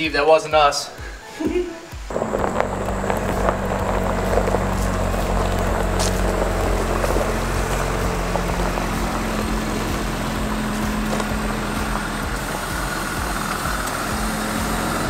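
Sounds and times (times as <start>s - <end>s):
car engine idling: 2.0s - 15.0s.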